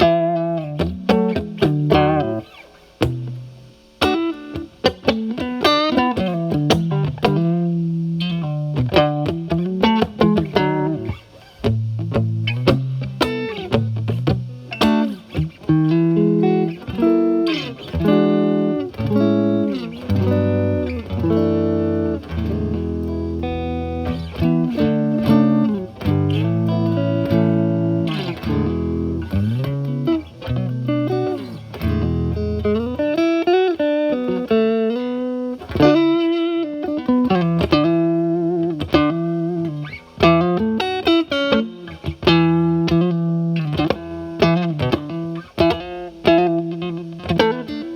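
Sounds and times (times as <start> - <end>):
overdriven electric guitar notes: 0.0 - 47.9.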